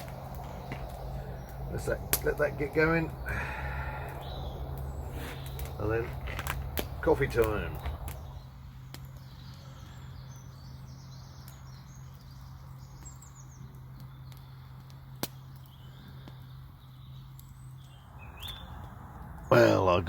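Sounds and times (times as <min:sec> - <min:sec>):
distant bird chirps: 0:00.0 - 0:20.0
steady low hum: 0:00.0 - 0:20.0.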